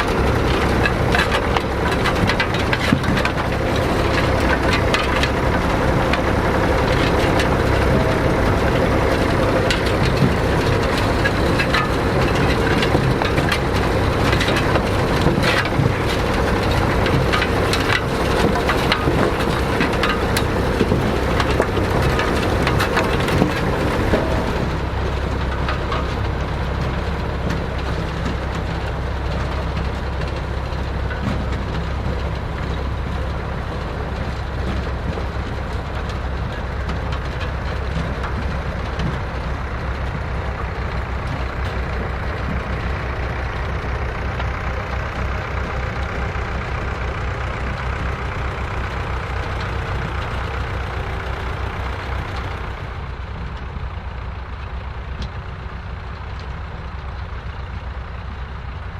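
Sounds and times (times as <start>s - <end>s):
tractor engine rumbling: 0.0s - 58.9s.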